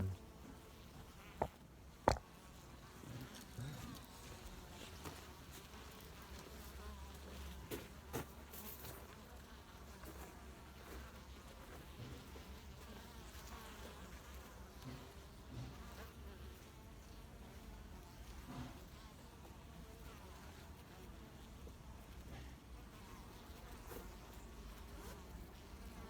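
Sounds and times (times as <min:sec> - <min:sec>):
bees buzzing faintly: 0:00.0 - 0:26.0.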